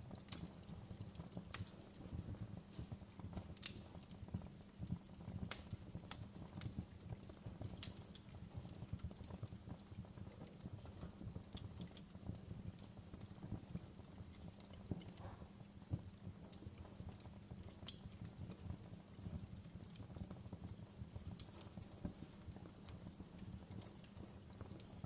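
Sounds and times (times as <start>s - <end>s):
open fire crackling: 0.0s - 25.0s
sharp fire snaps: 0.1s - 9.3s, 11.0s - 25.0s.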